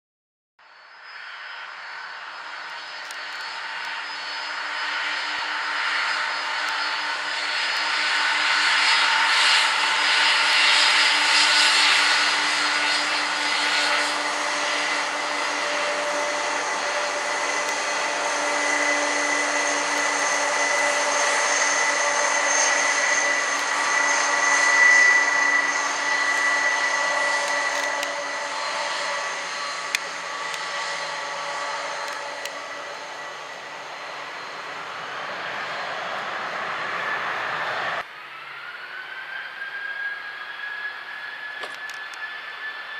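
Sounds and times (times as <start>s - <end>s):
jet engine roar with whine: 0.6s - 42.9s.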